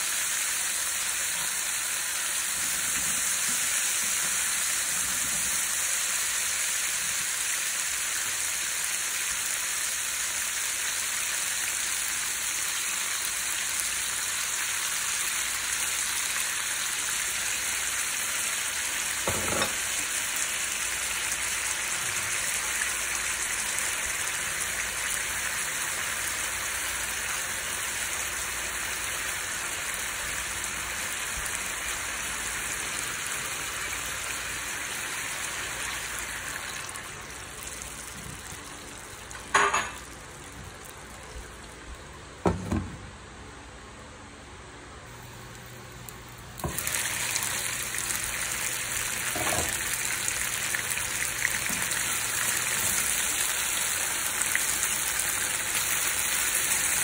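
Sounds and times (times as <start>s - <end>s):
chicken sizzling in a frying pan: 0.0s - 42.4s, 45.1s - 57.0s.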